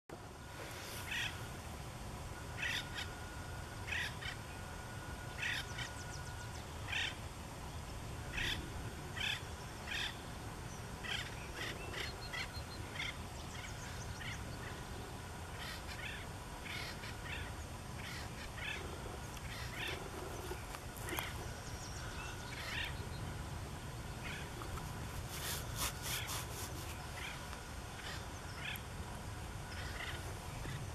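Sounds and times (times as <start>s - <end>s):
woodpecker calling: 1.1s - 1.4s, 2.5s - 4.6s, 5.3s - 7.2s, 8.3s - 23.4s, 24.1s - 29.0s, 29.7s - 30.9s.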